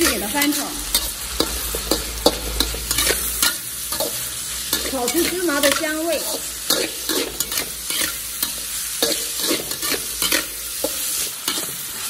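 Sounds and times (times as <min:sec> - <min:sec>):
spatula scraping a wok: 0:00.0 - 0:12.0
vegetables sizzling in hot oil: 0:00.0 - 0:12.0.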